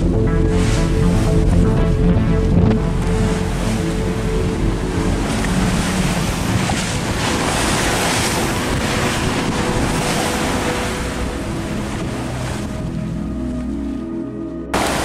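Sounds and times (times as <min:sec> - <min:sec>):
wind buffeting microphone: 0:00.0 - 0:13.3
waves splashing along hull: 0:00.0 - 0:15.0.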